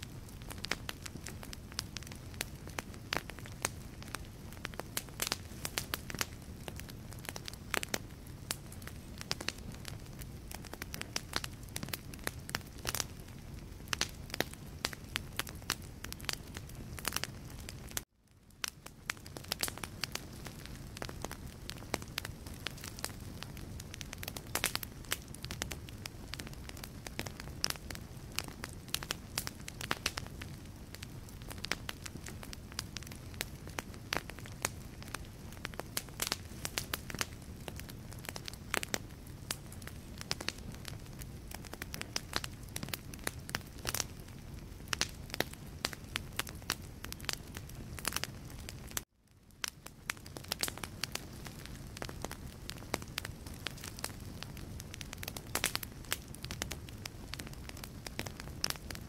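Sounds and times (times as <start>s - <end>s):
fire pops and snaps: 0.0s - 59.0s
low rumble of flames: 0.0s - 59.0s.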